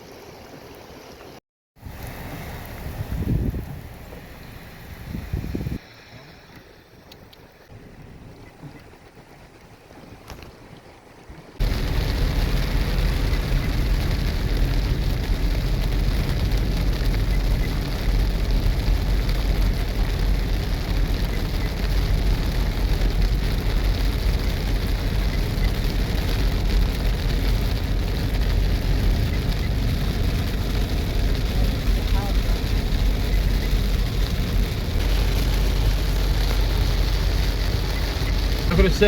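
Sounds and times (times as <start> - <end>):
steady rain: 0.1 - 6.6, 11.4 - 39.0
wind buffeting microphone: 1.8 - 5.9, 7.2 - 39.0.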